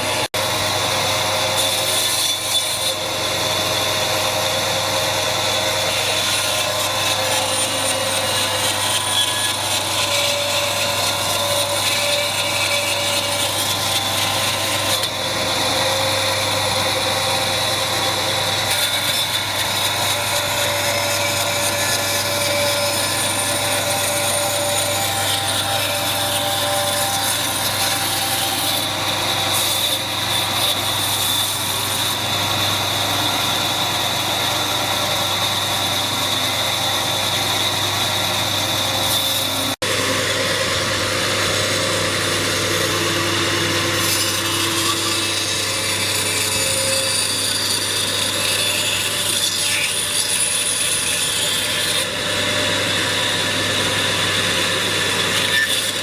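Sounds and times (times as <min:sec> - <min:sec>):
power tool cutting wood: 0:00.0 - 0:56.0.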